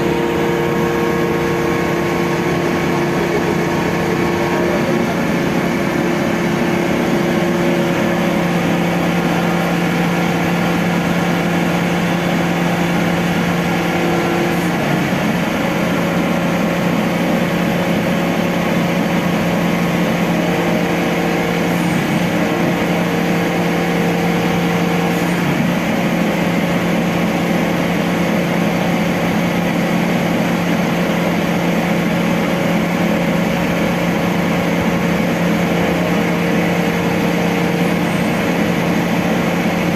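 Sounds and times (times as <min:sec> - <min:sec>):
crane diesel engine running: 0:00.0 - 0:39.9.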